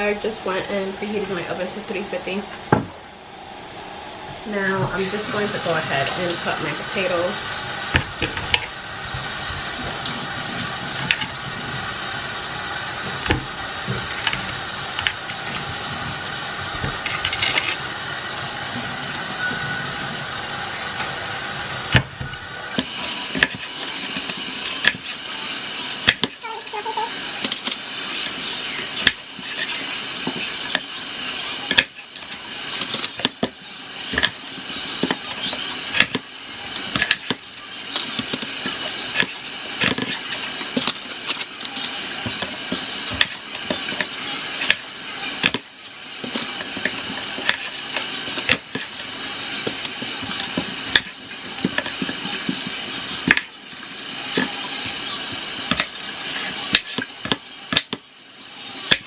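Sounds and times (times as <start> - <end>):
steady hiss: 0.0 - 22.0, 22.6 - 59.0.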